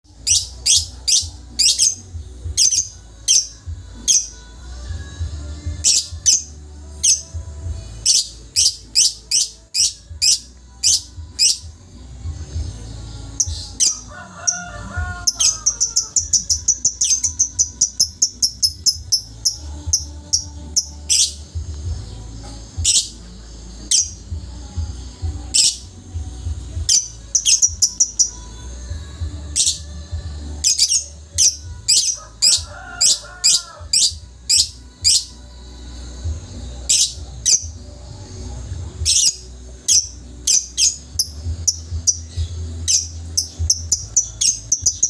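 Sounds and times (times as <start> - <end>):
bird chirping: 0.1 - 11.8, 12.4 - 35.6, 36.7 - 45.0.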